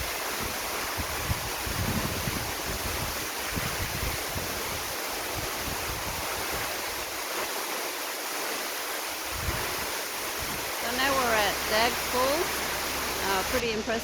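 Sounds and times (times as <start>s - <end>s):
wind buffeting microphone: 0.0s - 7.5s, 9.2s - 13.6s
waterfall rushing: 0.0s - 14.0s.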